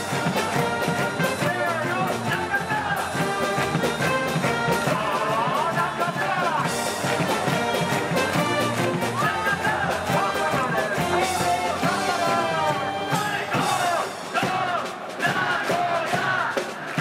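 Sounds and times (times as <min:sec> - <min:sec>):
brass band playing: 0:00.0 - 0:17.0
steady drum beat: 0:00.0 - 0:17.0.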